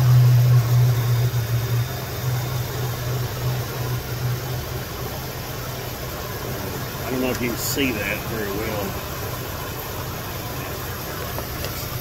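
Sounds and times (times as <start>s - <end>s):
pickup truck engine idling: 0.0s - 12.0s.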